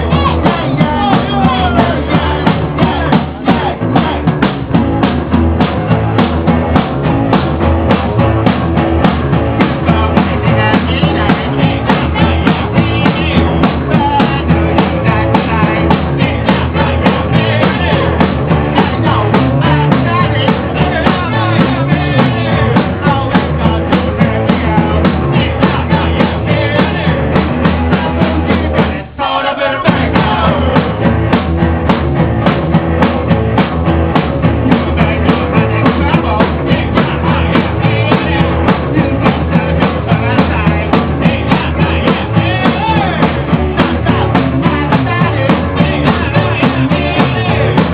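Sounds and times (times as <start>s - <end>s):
person singing: 0.0s - 4.8s, 9.3s - 31.4s, 34.6s - 47.9s
drums: 0.0s - 47.9s
rock band playing: 0.0s - 47.9s.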